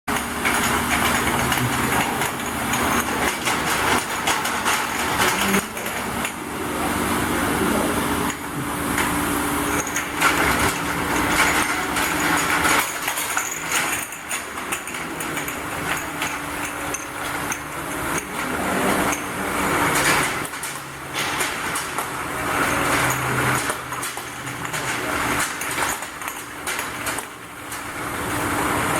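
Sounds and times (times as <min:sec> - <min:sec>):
bottles clattering and knocking: 0:00.1 - 0:06.6, 0:08.2 - 0:28.3
machine hum: 0:00.1 - 0:28.9.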